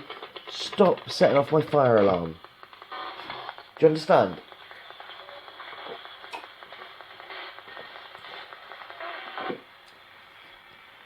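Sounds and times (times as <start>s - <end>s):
radio broadcast fragments: 0.0s - 11.0s
radio static hiss: 0.0s - 11.0s.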